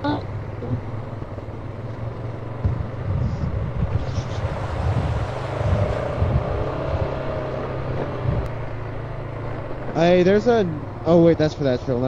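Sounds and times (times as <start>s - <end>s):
vehicle engine running low: 0.0s - 12.0s.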